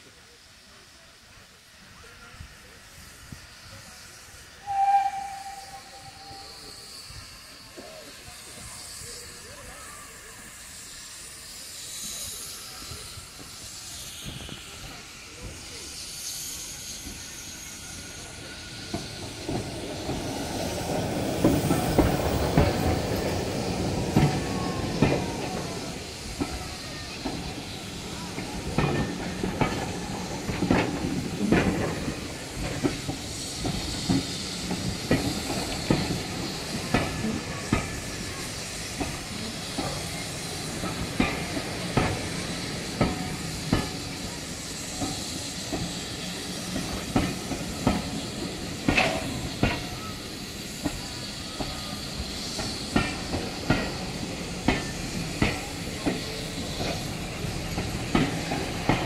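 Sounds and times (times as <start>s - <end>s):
steam locomotive hissing: 0.0s - 59.0s
train wheels clicking over rail joints: 2.4s - 59.0s.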